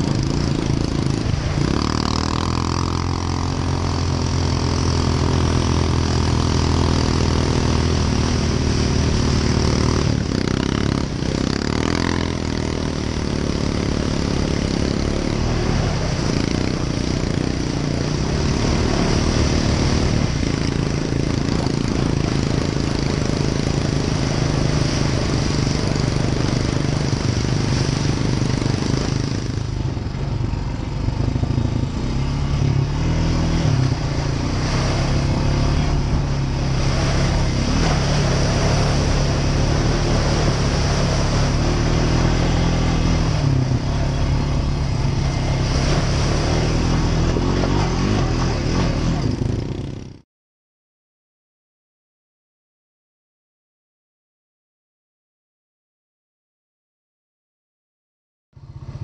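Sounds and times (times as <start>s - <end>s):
quad bike engine under load: 0.0s - 50.2s.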